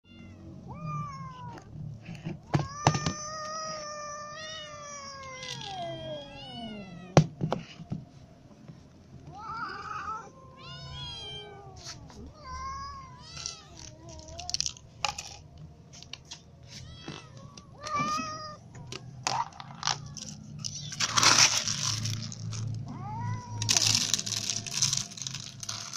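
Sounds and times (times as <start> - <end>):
cats meowing: 0.0 - 7.2, 9.2 - 25.9.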